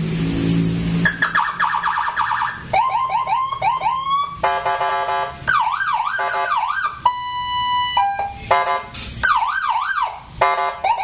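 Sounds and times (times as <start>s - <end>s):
electronic siren cycling tones: 1.0s - 11.0s.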